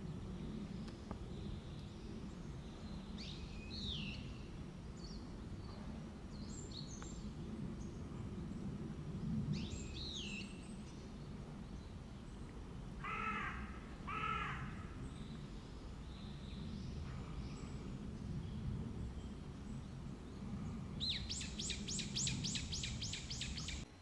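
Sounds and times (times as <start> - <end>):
bird calls and chirps: 0.0 - 8.6, 9.5 - 13.6, 14.2 - 23.9
low outdoor rumble: 0.0 - 24.0.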